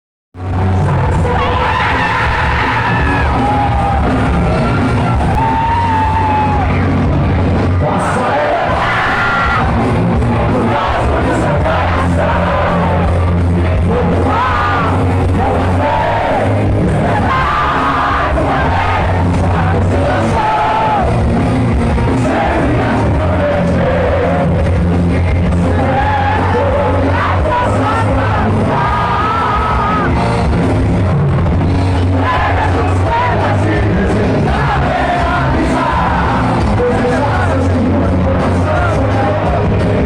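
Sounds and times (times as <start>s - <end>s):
crowd noise: 0.4s - 40.0s
heavy metal band playing: 0.4s - 40.0s.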